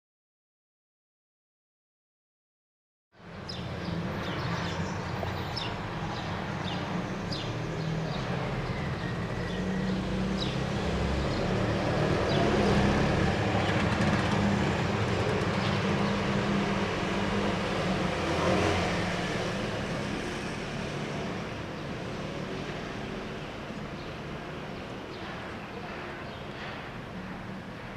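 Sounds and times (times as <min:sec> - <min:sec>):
road traffic rumble: 0:03.2 - 0:27.9.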